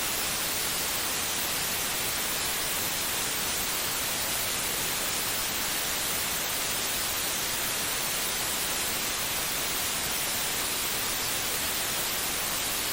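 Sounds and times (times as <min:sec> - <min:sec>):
white noise hiss: 0:00.0 - 0:12.9.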